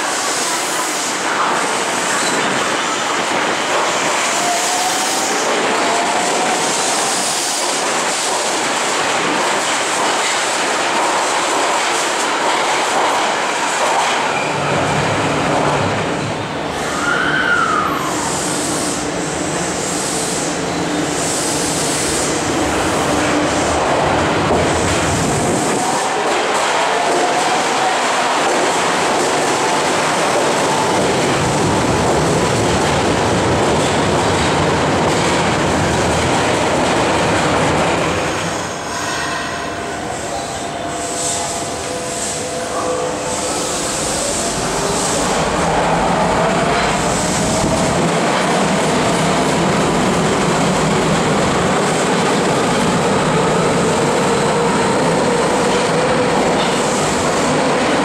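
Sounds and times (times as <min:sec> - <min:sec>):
train running noise: 0:00.0 - 0:58.0.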